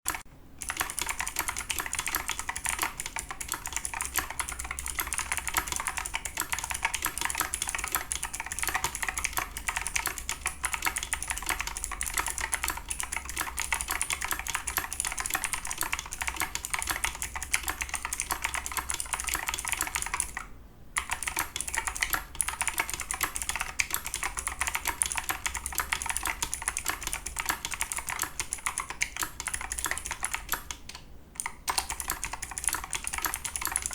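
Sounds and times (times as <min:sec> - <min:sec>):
fast typing on clicky keyboard: 0:00.1 - 0:33.9.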